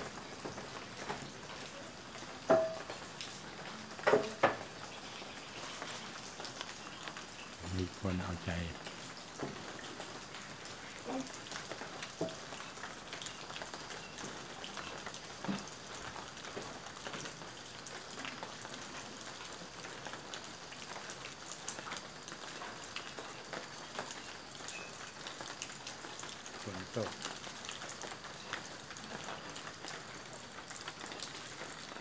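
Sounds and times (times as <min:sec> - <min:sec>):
rain drops pattering on hard surface: 0:00.0 - 0:32.0.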